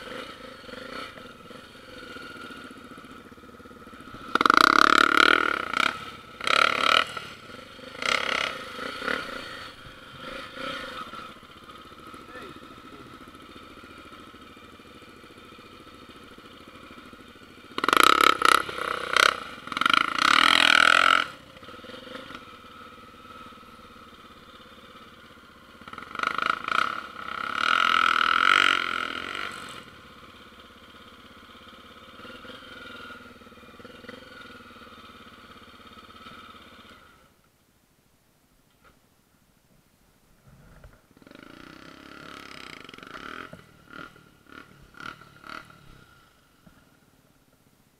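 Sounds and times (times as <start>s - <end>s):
motorcycle engine revving: 0.0s - 37.4s, 40.5s - 47.4s.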